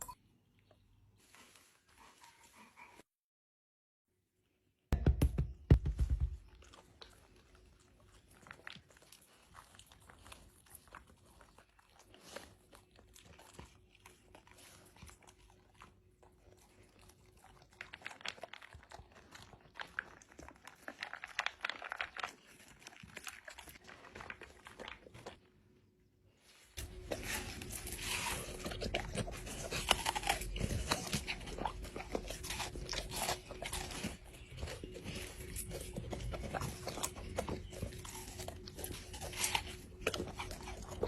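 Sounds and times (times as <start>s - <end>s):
dog chewing and crunching: 6.2s - 25.7s, 26.8s - 41.0s.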